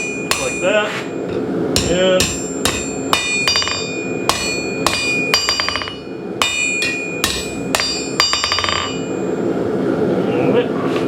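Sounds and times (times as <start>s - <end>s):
hammer striking steel on anvil: 0.0s - 9.3s.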